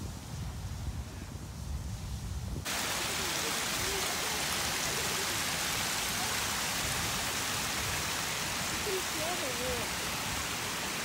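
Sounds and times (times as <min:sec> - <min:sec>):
geyser hissing and spraying water: 0:00.0 - 0:11.0.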